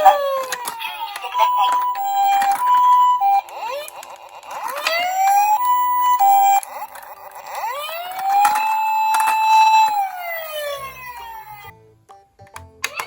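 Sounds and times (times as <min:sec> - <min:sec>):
toy electronic sirens wailing: 0:00.0 - 0:11.7.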